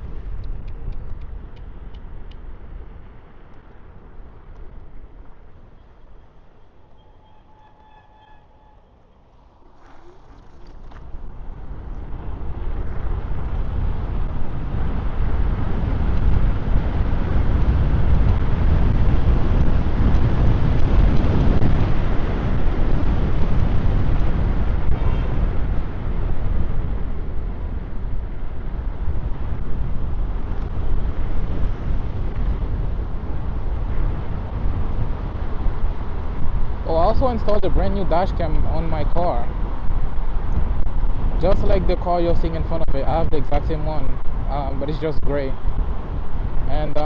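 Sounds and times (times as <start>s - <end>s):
wind rushing over microphone: 0.0s - 8.0s, 9.2s - 47.0s
scooter road rumble: 0.0s - 47.0s.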